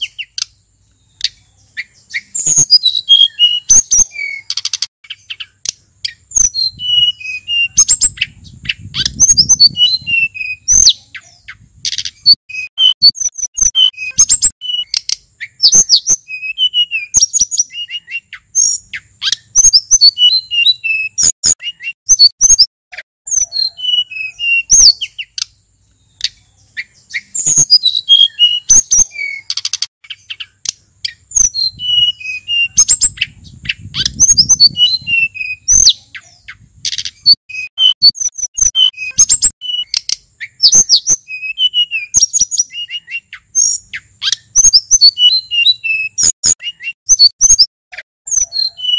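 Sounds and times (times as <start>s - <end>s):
bird singing chirps and trills: 0.0s - 48.9s.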